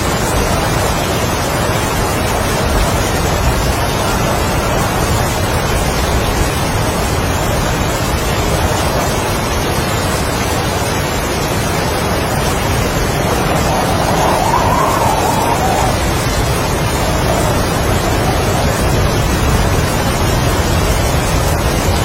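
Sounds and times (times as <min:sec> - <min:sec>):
heavy rain: 0:00.0 - 0:22.0
strong wind: 0:00.0 - 0:22.0.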